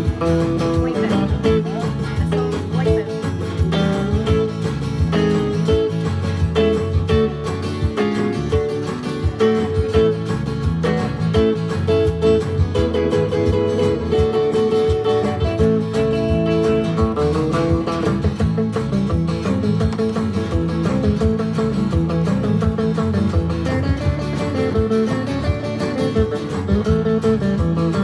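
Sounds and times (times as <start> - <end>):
acoustic guitar strumming: 0.0 - 28.0
keyboard playing: 0.0 - 28.0
second guitar: 0.0 - 28.0.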